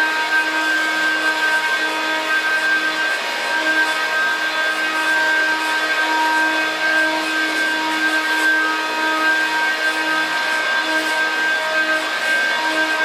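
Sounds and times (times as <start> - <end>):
upright vacuum cleaner running: 0.0 - 13.0.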